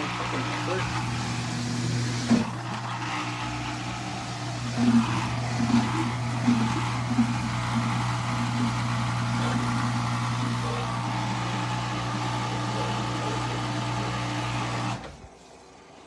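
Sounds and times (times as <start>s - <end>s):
drain pump humming: 0.0s - 15.3s.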